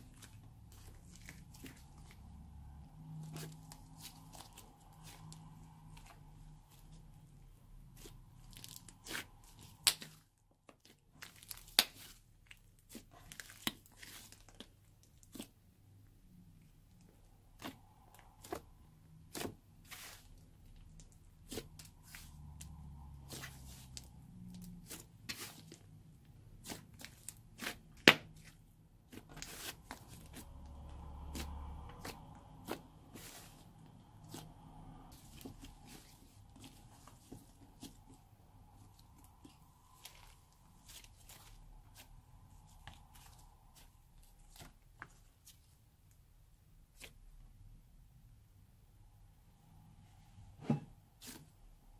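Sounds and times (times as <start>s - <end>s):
slime squishing: 0.0s - 46.2s, 51.2s - 51.9s.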